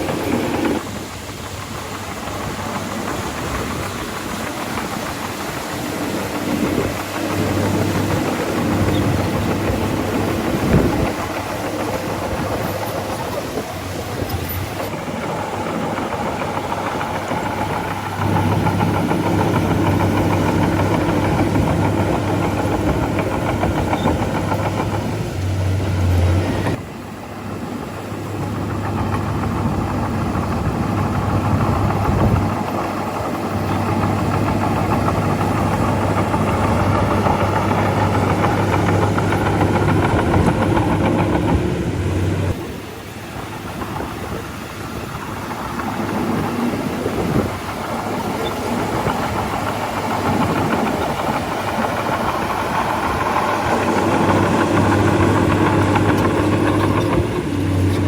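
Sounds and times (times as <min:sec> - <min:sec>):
bulldozer engines running: 0:00.0 - 0:58.0.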